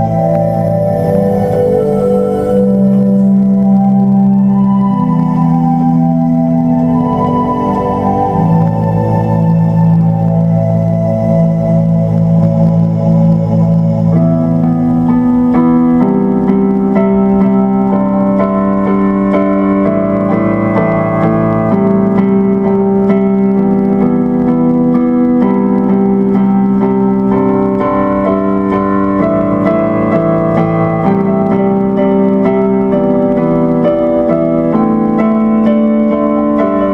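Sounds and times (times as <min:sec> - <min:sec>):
electric piano chords: 0:00.0 - 0:36.9.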